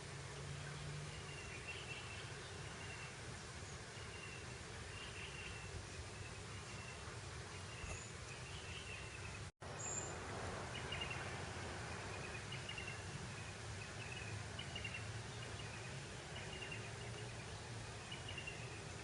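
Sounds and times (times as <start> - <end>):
light breeze hissing: 0.0 - 19.0.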